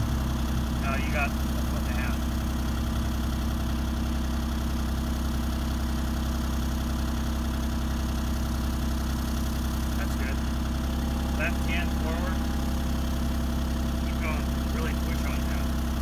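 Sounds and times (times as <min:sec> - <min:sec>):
excavator engine idling: 0:00.0 - 0:16.0.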